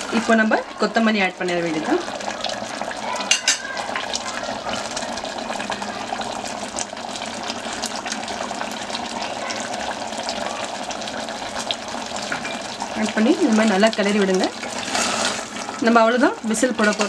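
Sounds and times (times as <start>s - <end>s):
gravy sizzling and bubbling: 0.0s - 17.0s.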